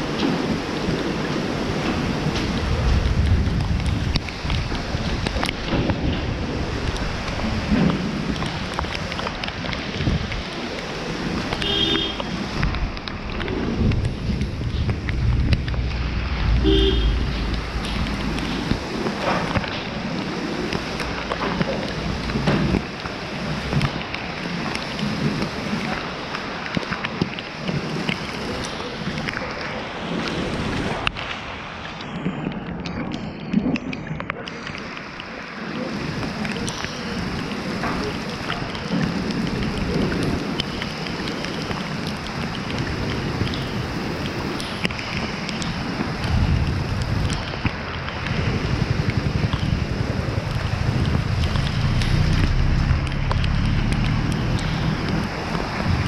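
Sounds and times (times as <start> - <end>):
wind buffeting microphone: 0.0 - 34.9, 35.8 - 56.0
rain falling: 0.0 - 56.0.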